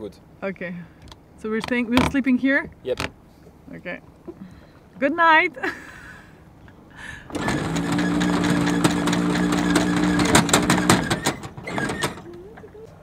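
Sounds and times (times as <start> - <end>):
windlass motor hum: 0.9 - 13.0.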